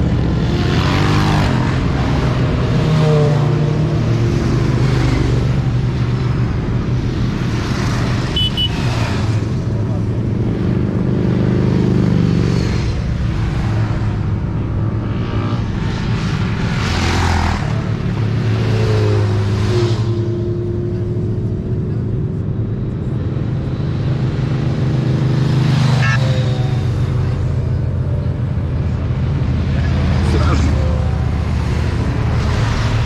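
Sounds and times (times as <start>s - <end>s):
motorcycle engines running: 0.0s - 33.0s.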